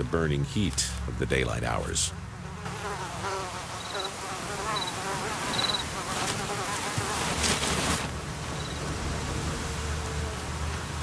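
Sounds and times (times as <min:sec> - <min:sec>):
flies buzzing: 0:01.7 - 0:11.0.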